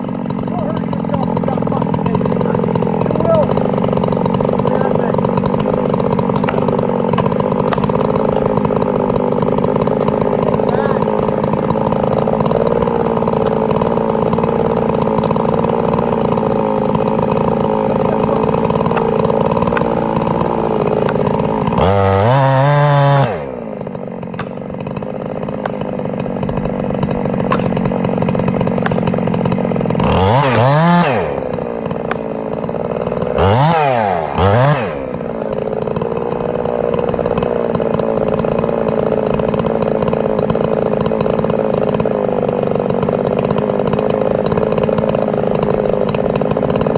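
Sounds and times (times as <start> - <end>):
chainsaw cutting and revving: 0.0 - 46.9.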